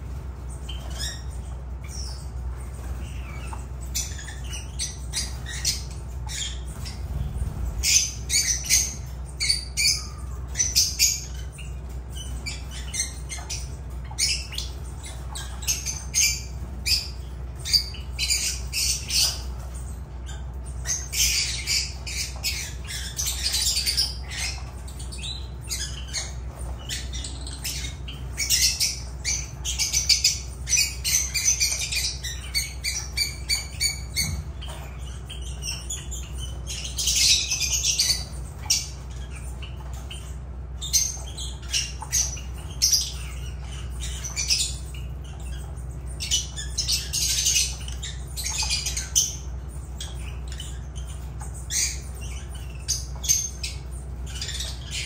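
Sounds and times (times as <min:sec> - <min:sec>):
lovebirds calling: 0:00.0 - 0:55.0
steady low hum: 0:00.0 - 0:55.0.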